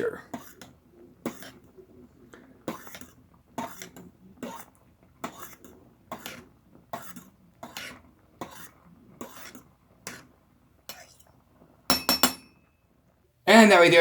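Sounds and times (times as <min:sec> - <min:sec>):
fork scraping pasta pot: 0:00.1 - 0:11.4.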